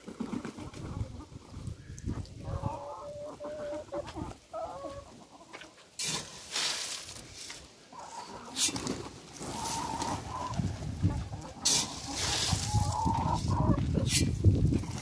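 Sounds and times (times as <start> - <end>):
hens clucking: 0.0 - 6.3, 7.8 - 15.0.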